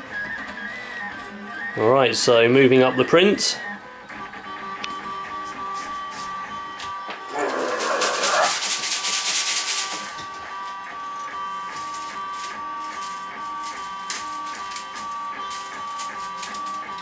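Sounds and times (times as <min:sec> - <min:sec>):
printer whine with ticking: 0:00.0 - 0:07.8, 0:09.8 - 0:17.0.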